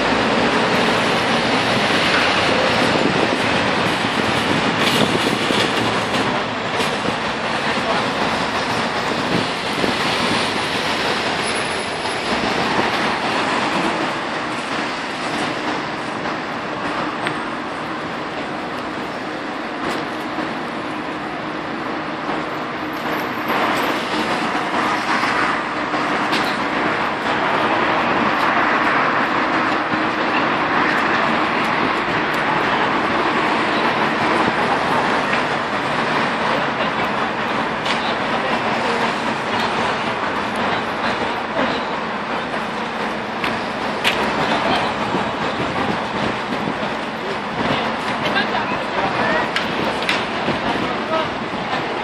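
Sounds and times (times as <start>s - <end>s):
traffic on wet street: 0.0s - 52.0s.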